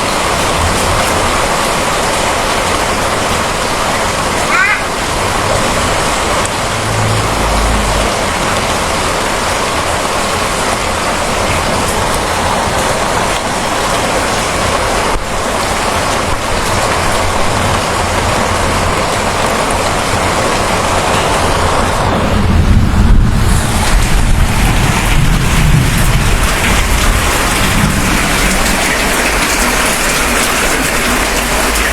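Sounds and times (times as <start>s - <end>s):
loud rainfall: 0.0s - 31.9s
thunder rumble: 0.0s - 31.9s.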